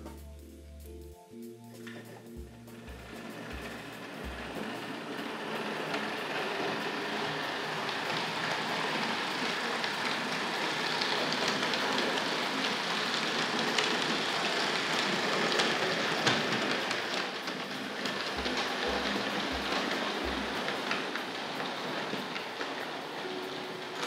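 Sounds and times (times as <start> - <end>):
model train rattling on track: 1.8 - 24.0.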